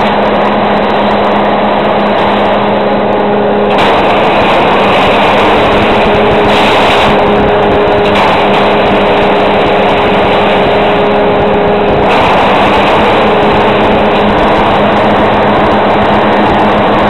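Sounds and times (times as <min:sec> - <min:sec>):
even machine hum: 0:00.0 - 0:17.0
tractor and forage harvester running: 0:00.0 - 0:17.0.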